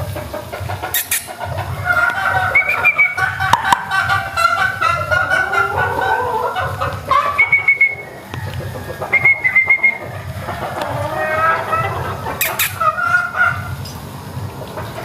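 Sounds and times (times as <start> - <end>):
hens and rooster clucking: 0.0 - 15.0
short high chicken calls: 0.9 - 13.8.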